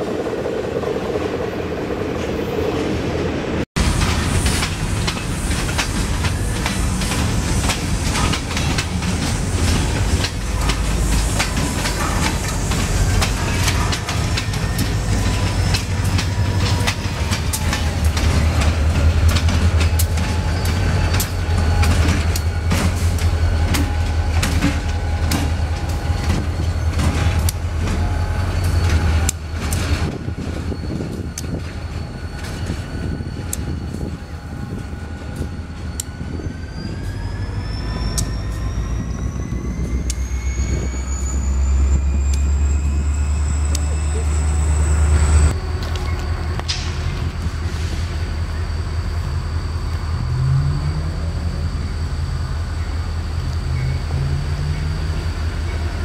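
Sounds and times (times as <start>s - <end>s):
locomotive engine rumbling: 0.0s - 56.0s
train wheels clicking over rail joints: 3.8s - 56.0s.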